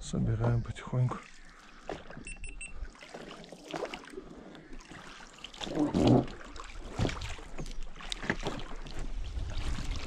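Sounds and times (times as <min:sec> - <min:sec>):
water splashing and dripping: 0:00.4 - 0:10.0.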